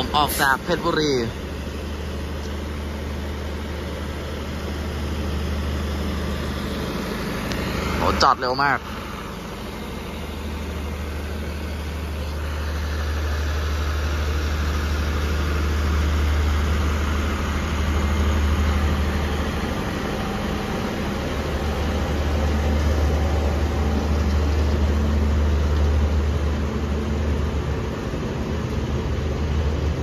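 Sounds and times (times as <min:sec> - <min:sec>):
diesel train rumbling past: 0:00.0 - 0:30.0.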